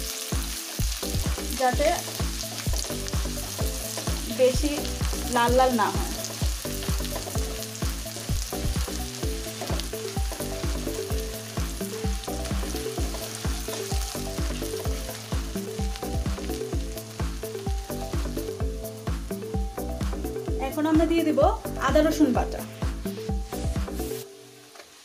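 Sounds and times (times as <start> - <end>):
background music: 0.0 - 25.0
onions sizzling in oil: 0.0 - 25.0.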